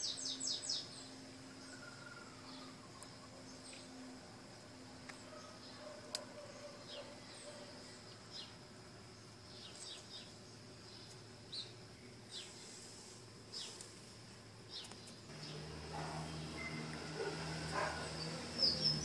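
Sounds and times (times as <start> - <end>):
high insect buzz: 0.0 - 19.0
small birds chirping: 0.0 - 19.0.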